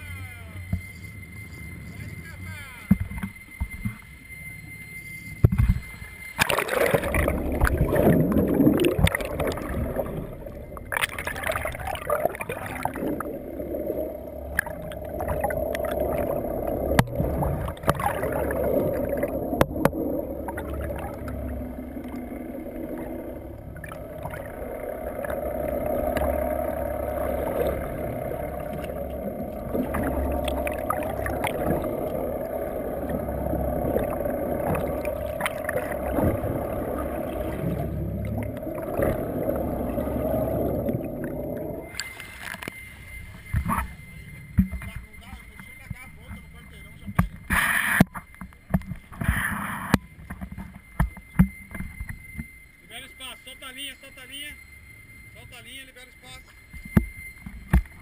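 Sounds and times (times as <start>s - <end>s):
outboard motors underwater hum: 0.0s - 58.0s
water splashing and gurgling: 5.4s - 52.2s.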